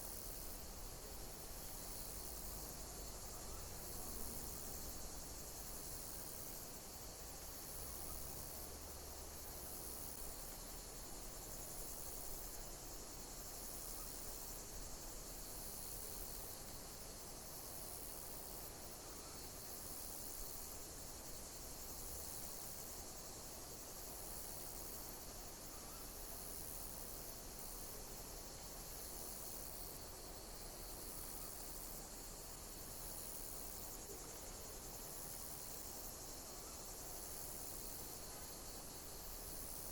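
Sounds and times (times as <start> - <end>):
high insect chirp: 0.0 - 39.9
insects trilling: 0.0 - 39.9.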